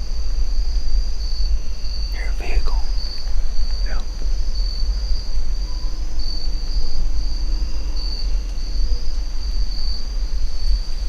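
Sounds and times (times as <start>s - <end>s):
constant low rumble: 0.0s - 11.0s
high-pitched insect chorus: 0.0s - 11.0s.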